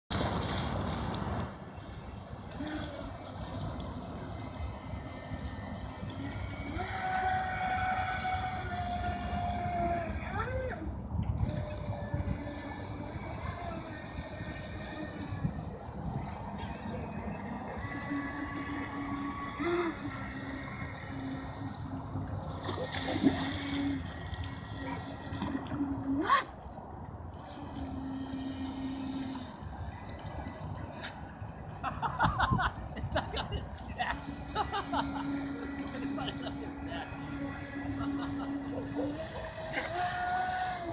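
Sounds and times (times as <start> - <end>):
low hum: 0.1 - 40.9
model boat motor whining: 0.3 - 40.9.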